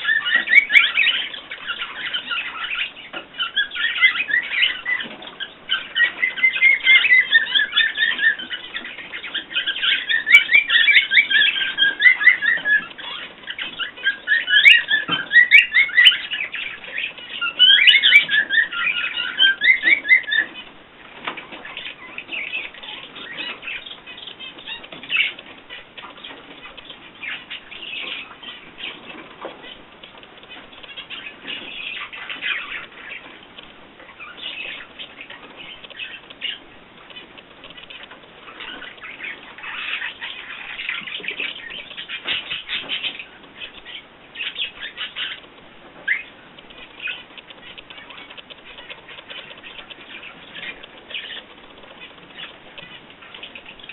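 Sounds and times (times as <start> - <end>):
cage birds chirping: 0.0 - 53.9.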